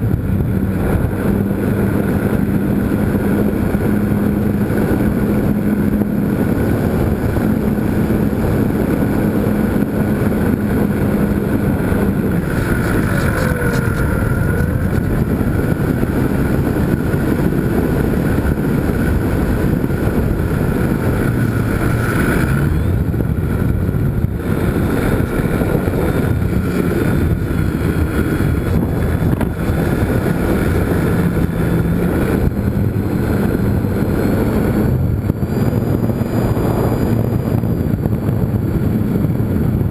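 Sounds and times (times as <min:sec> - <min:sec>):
model airplane electric motor and propeller: 0:00.0 - 0:39.9
wind rushing over microphone: 0:00.0 - 0:39.9.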